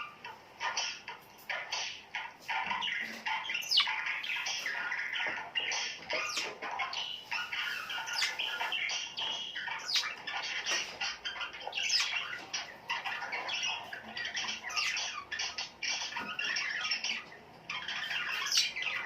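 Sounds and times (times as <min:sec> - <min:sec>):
bird squawk: 0:00.0 - 0:19.0
small birds chirping: 0:00.0 - 0:19.0.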